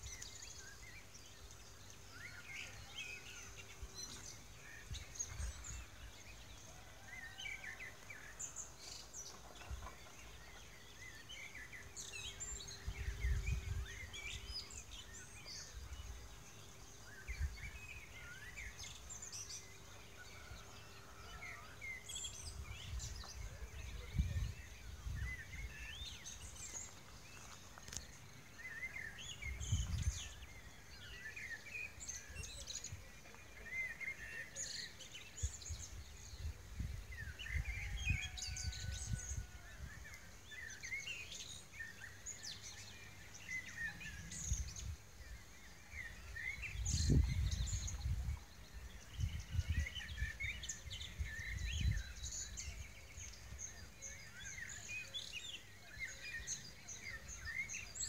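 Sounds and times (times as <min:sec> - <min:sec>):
birds singing and chirping: 0:00.0 - 0:58.0.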